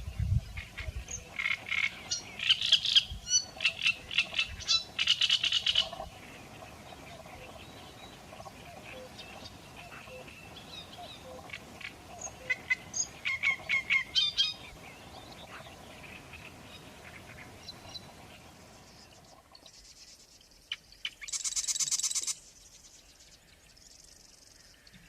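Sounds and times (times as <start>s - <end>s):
birds calling: 0.0s - 25.0s.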